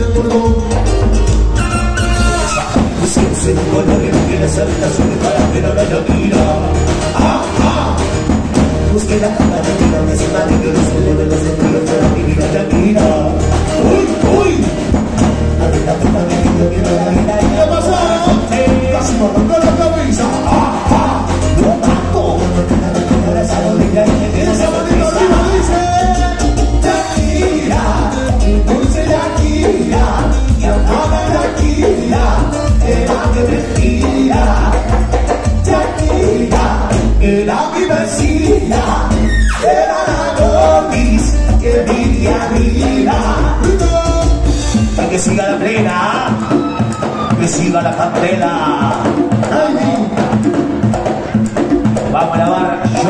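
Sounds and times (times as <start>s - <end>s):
person singing: 0.0s - 14.8s, 15.4s - 50.6s
congas and timbales beat: 0.0s - 53.0s
latin dance band playing: 0.0s - 53.0s.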